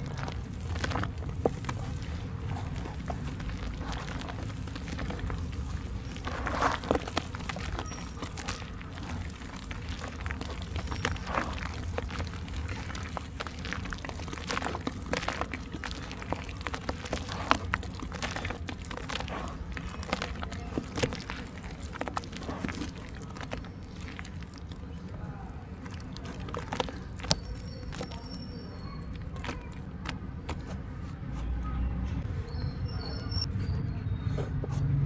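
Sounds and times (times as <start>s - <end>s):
wet mud squelching: 0.0s - 31.6s.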